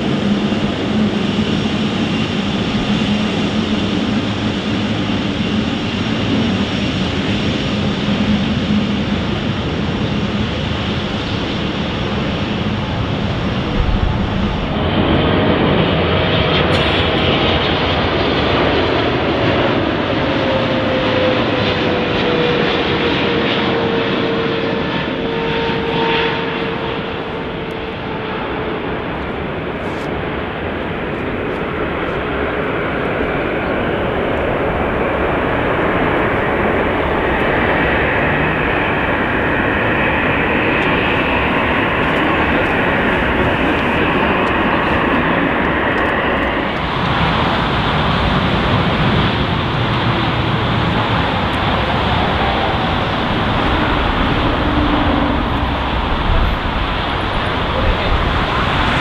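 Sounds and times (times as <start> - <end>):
jet engines running: 0.0 - 59.0
thin engine whine: 0.0 - 59.0
higher whine: 11.2 - 59.0.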